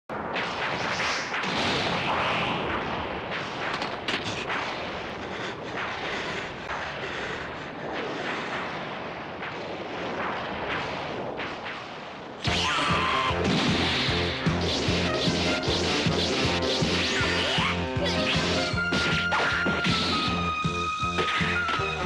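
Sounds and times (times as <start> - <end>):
sharp cracks and booms: 0.1 - 20.4.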